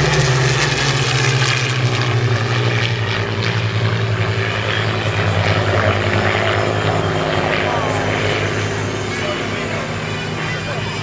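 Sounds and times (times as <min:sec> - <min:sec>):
propeller planes flying past: 0:00.0 - 0:11.0.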